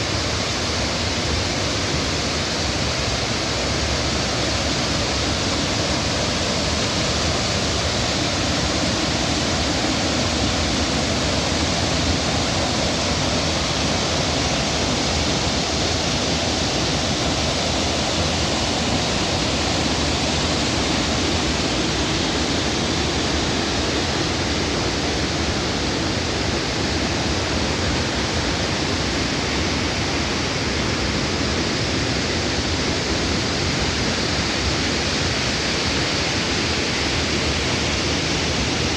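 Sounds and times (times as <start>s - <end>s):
waterfall splashing: 1.5s - 38.9s.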